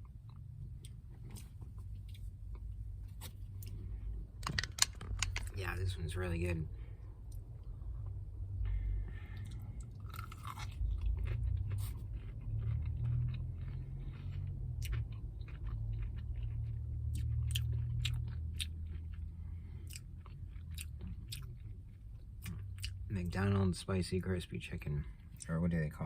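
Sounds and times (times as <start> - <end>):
chewing crispy fried chicken: 0.0 - 5.6, 7.1 - 26.0.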